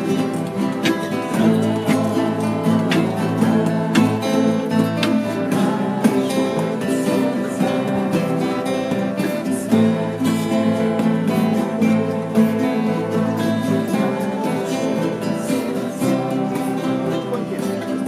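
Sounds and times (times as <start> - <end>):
band playing: 0.0 - 18.0
strummed acoustic guitar: 0.0 - 18.0.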